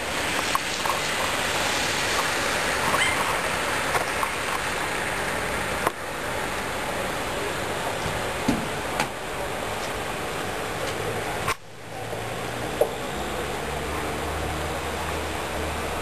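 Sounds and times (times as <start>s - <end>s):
rushing hiss of outdoor noise: 0.0s - 16.0s.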